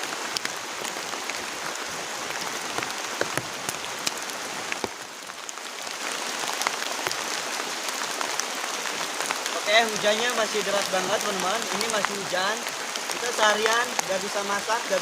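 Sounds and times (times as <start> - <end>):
heavy rain hissing: 0.0 - 15.0
raindrops ticking close by: 0.0 - 15.0.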